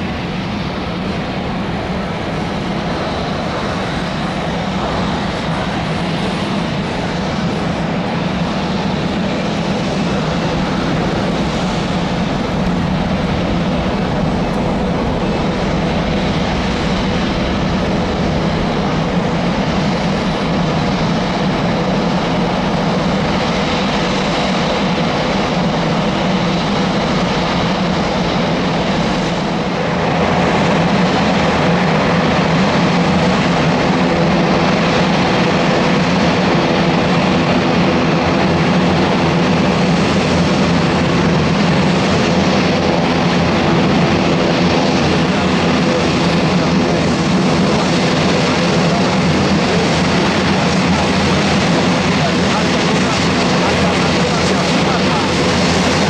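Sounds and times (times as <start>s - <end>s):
aircraft engines droning: 0.0s - 56.0s.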